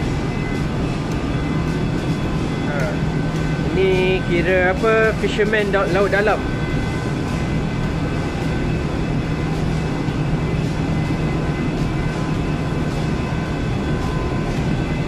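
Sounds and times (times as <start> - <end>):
faint steady high tones: 0.0 - 15.0
ship machinery low hum: 0.0 - 15.0.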